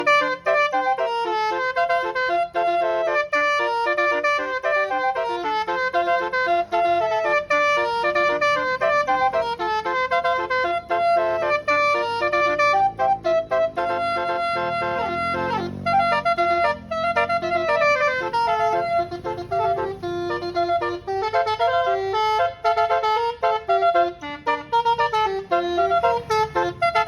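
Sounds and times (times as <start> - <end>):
bus horn playing a tune: 0.0 - 27.0.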